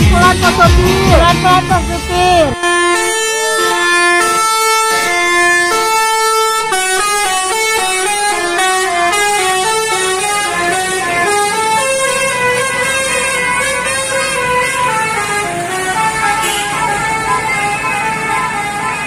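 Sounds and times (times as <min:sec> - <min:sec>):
musical air horns playing a tune: 0:00.0 - 0:19.0.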